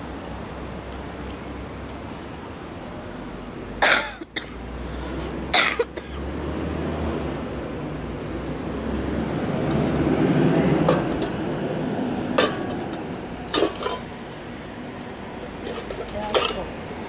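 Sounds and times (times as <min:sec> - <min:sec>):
street rumble: 0:00.0 - 0:17.0.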